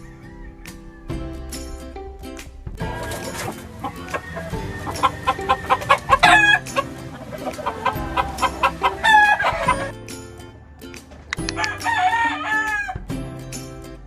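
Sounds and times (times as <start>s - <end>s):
roosters crowing: 0.0s - 1.7s, 2.8s - 13.2s
roosters clucking: 0.0s - 1.8s, 2.8s - 13.2s
background music: 0.0s - 14.0s.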